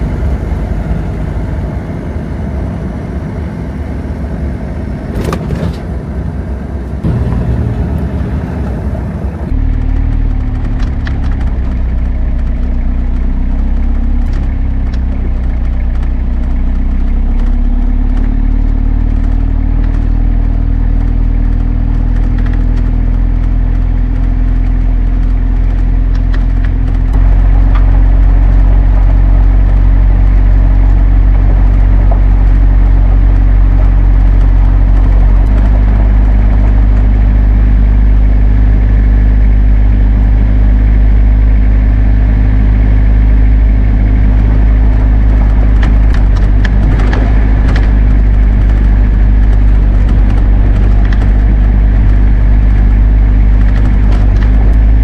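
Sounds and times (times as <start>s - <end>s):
gravel road noise: 0.0s - 55.0s
vehicle engine driving: 0.0s - 55.0s.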